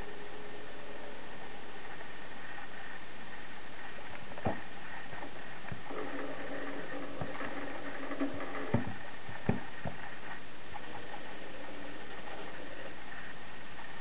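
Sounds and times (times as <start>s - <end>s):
model railway motor humming: 0.0s - 14.0s.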